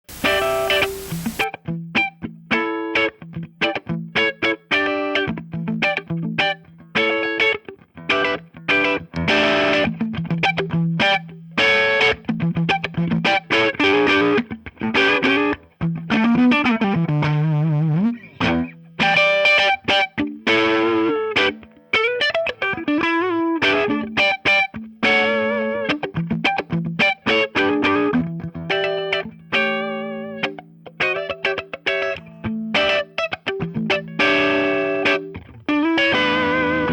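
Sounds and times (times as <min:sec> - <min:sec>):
electric guitar playing: 0:00.0 - 0:36.9.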